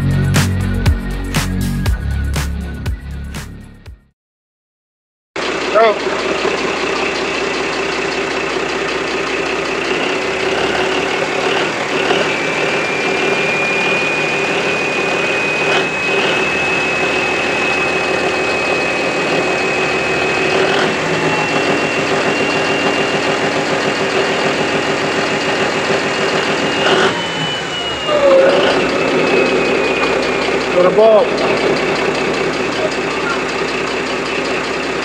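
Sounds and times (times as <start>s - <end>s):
diesel engine running: 5.4s - 35.0s
high whine: 5.7s - 35.0s.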